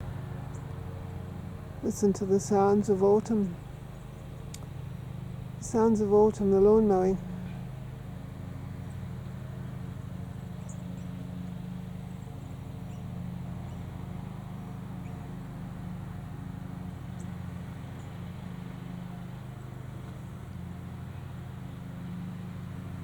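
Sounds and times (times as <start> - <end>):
distant lawnmower engine: 0.0 - 23.0.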